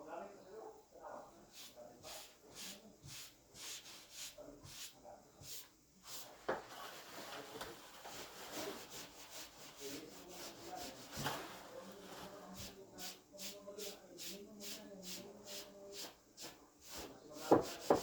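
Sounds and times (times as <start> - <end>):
hand tool rubbing on ceiling patch: 1.5 - 18.0.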